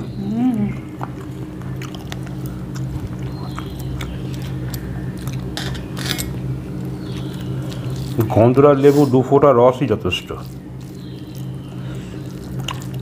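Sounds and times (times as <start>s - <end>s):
people chewing: 0.0s - 13.0s
steady low hum: 0.0s - 13.0s.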